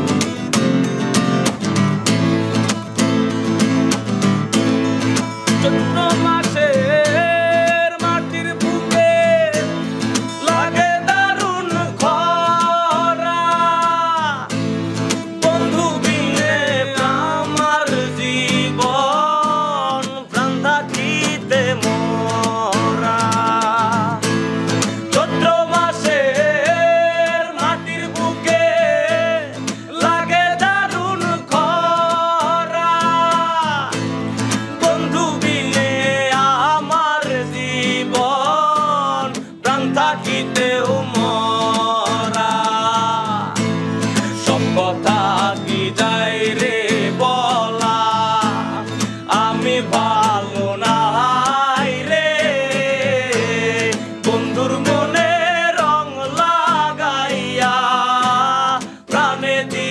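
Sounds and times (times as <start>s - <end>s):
acoustic guitars strummed: 0.0s - 59.9s
men singing: 5.5s - 59.9s.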